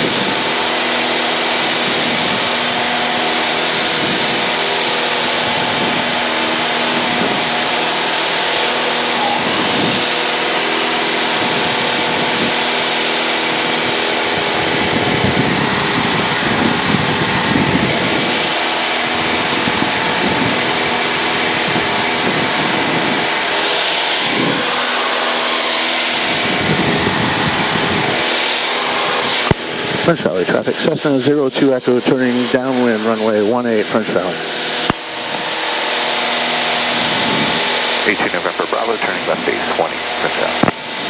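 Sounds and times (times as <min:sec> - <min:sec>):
airplane engine droning: 0:00.0 - 0:41.0
rushing noise: 0:00.0 - 0:41.0.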